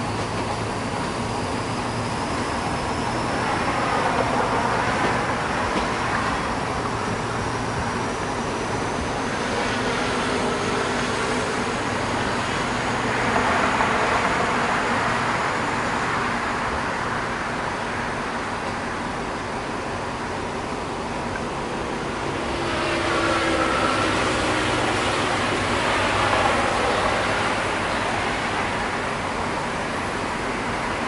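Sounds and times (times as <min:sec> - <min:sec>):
train wheels on rail: 0:00.0 - 0:31.0.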